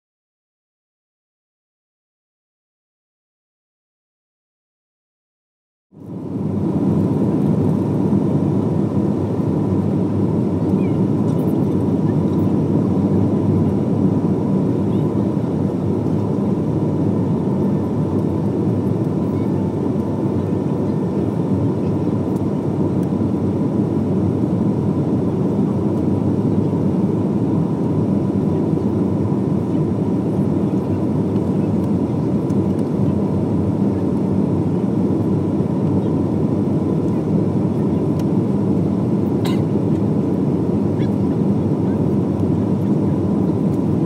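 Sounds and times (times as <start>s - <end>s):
aircraft cabin engine noise: 6.0s - 44.0s.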